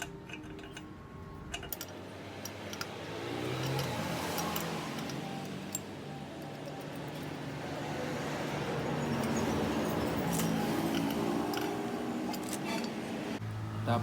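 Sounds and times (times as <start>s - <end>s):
passing road vehicle engine: 0.8s - 14.0s.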